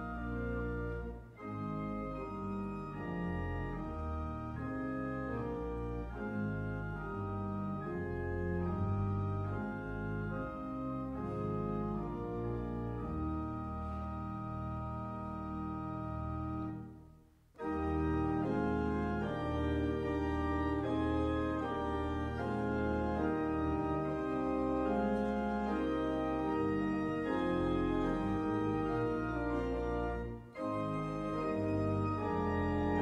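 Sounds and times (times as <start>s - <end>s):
organ playing a hymn: 0.0s - 33.0s.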